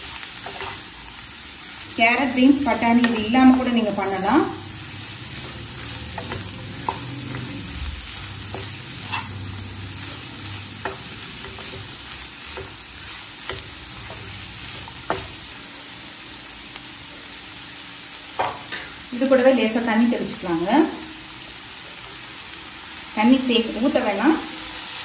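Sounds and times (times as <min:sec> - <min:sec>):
vegetables sizzling in a pan: 0:00.0 - 0:25.0.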